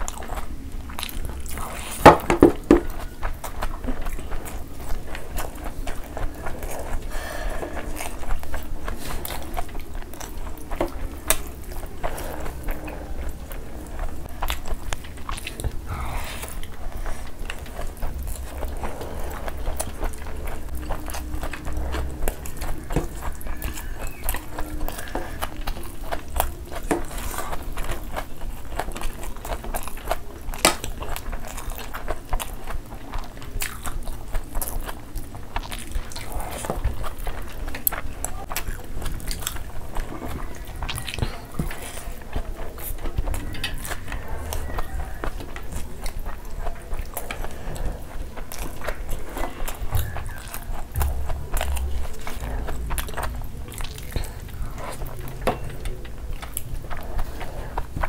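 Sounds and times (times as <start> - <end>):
chewing and mouth smacking: 0.0 - 58.0.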